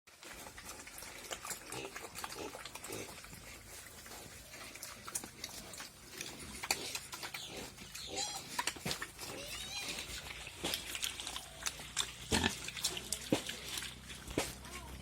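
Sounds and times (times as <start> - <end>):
pigs grunting: 0.2 - 15.0.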